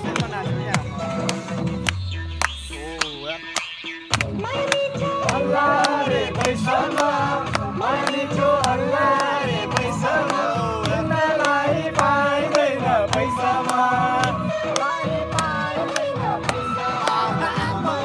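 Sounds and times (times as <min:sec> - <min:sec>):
singing over percussive beat: 0:00.0 - 0:18.0.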